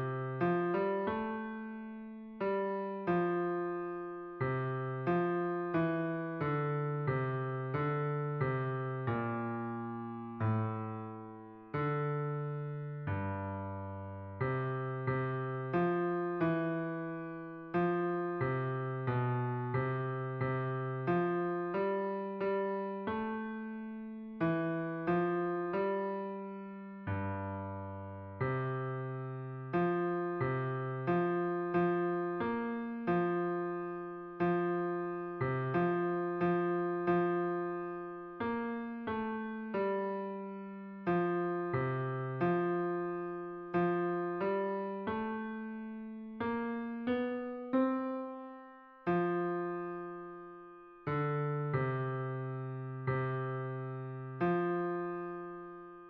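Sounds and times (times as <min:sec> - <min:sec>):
piano chords: 0:00.0 - 0:56.0.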